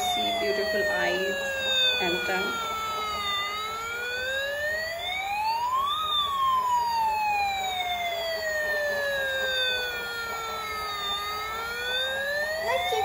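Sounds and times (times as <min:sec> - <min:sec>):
toy siren wailing: 0:00.0 - 0:13.0.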